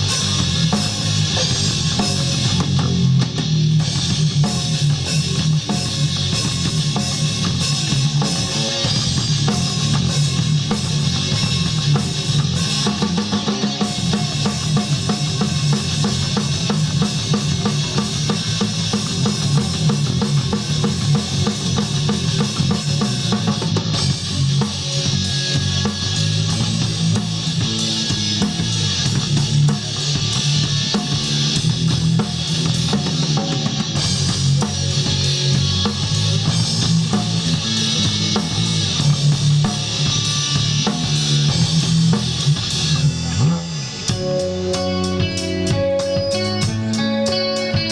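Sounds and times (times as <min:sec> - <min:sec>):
bass drum and snare: 0:00.0 - 0:47.9
rock band playing: 0:00.0 - 0:47.9.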